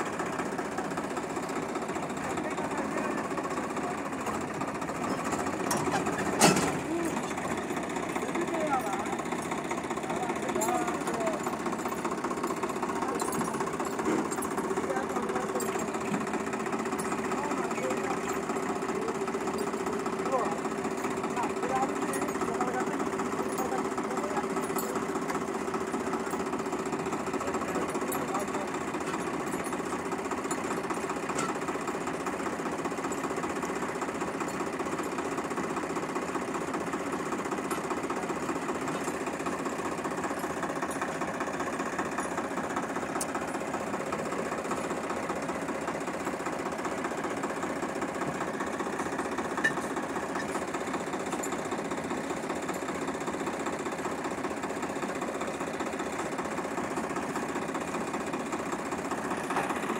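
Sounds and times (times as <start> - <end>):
tractor diesel engine clattering: 0.0 - 59.9.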